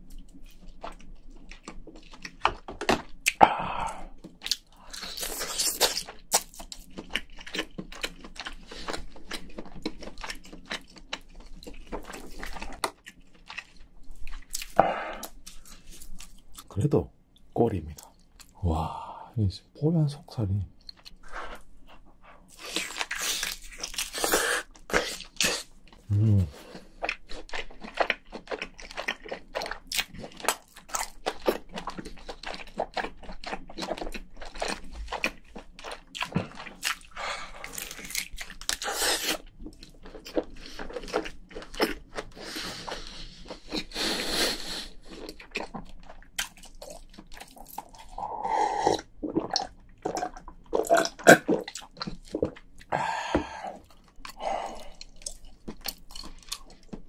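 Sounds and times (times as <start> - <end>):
crunching food: 0.0 - 16.7, 20.8 - 57.0
wet chewing and lip smacks: 0.0 - 16.7, 20.8 - 26.0, 27.0 - 44.0, 44.9 - 48.2, 48.9 - 52.9, 53.7 - 57.0.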